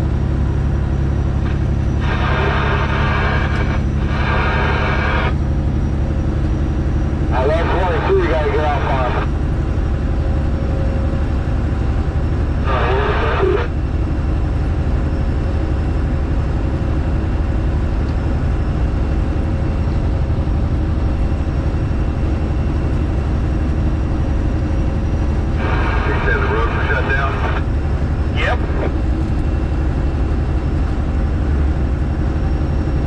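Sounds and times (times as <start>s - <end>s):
diesel truck exhaust drone: 0.0s - 33.0s.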